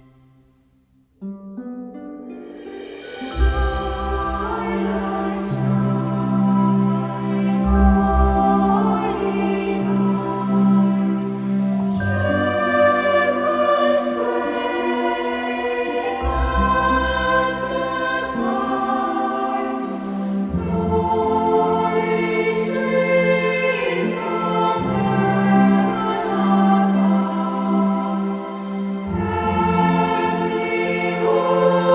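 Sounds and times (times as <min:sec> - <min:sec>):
choir singing slow chords: 0:02.5 - 0:31.9.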